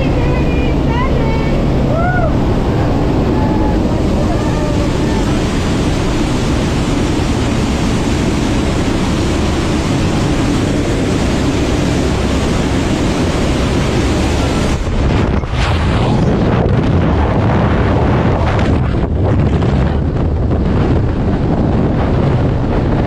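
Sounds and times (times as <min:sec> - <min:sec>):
aircraft engines and rushing air: 0:00.0 - 0:23.0.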